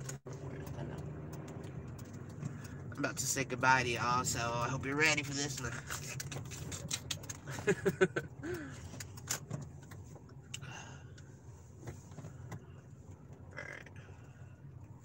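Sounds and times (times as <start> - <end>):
car engine and road hum: 0.0 - 15.0
car interior clicks and rattles: 0.0 - 15.0.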